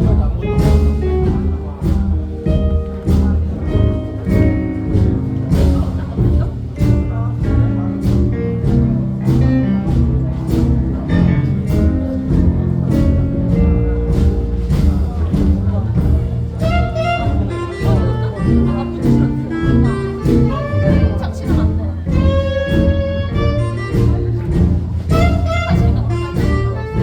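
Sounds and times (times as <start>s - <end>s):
bass line: 0.0s - 27.0s
live jazz band playing: 0.0s - 27.0s.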